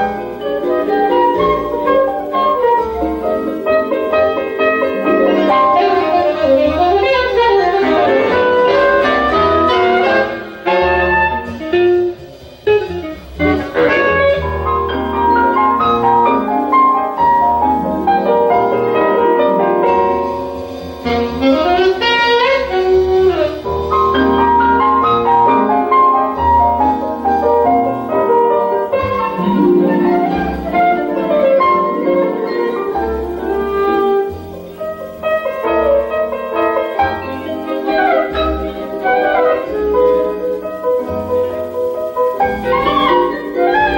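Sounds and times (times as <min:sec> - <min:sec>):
piano: 0:00.0 - 0:43.9
saxophone melody: 0:00.0 - 0:43.9.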